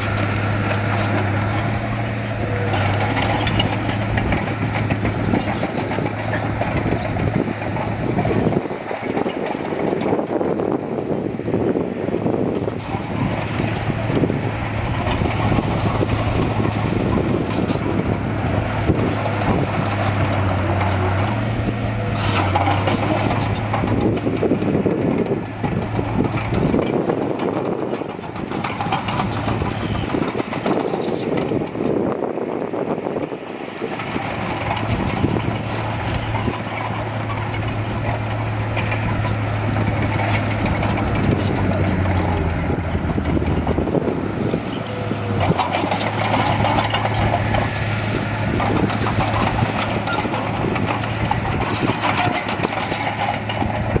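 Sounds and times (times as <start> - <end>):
diesel engine hum: 0.0 - 54.0
rough mechanical noise: 0.0 - 54.0.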